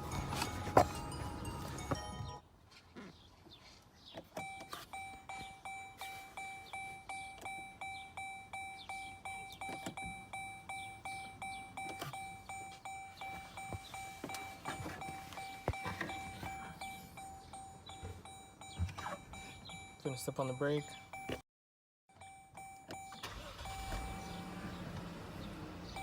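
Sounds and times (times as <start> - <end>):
car warning chime dinging: 0.0 - 2.4, 4.4 - 21.4, 22.1 - 26.0.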